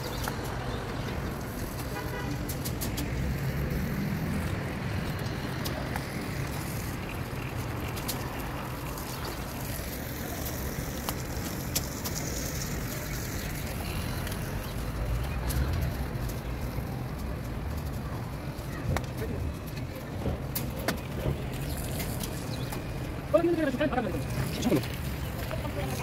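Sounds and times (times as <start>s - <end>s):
distant city traffic: 0.0s - 26.0s.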